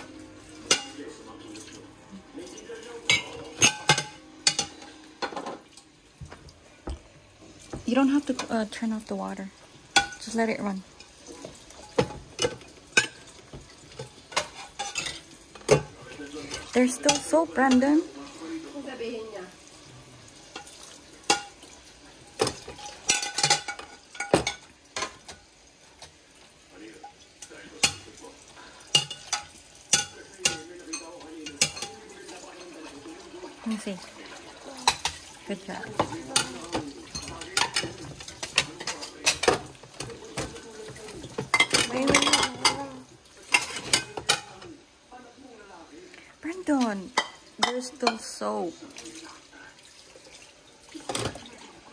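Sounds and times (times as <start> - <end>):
dishes and cutlery clinking: 0.0 - 19.0, 19.6 - 44.8, 46.7 - 51.9.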